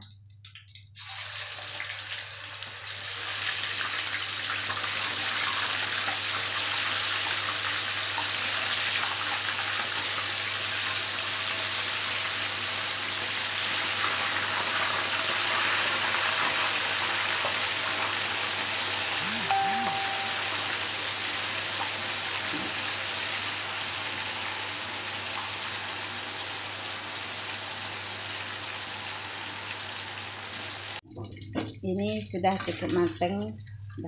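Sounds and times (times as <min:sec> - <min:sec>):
tofu deep-frying in hot oil: 0:00.0 - 0:31.0.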